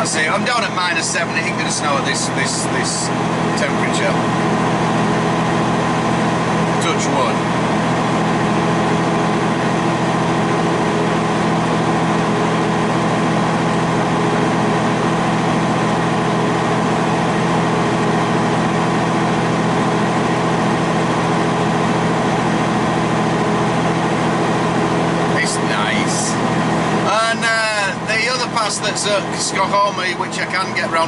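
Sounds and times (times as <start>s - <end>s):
road noise inside cab: 0.0s - 31.0s
truck diesel engine drone: 0.0s - 31.0s.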